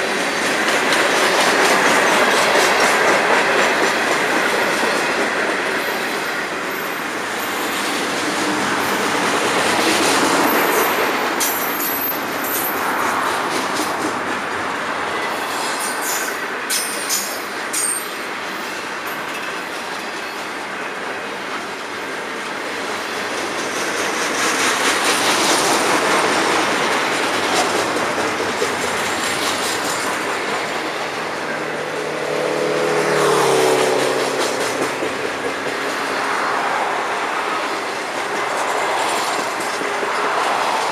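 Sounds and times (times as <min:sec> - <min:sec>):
train wheels clattering: 0:00.0 - 0:40.9.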